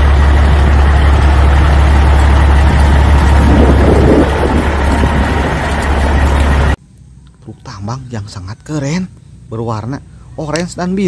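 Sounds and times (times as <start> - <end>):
heavy truck engine rumble: 0.0 - 11.0.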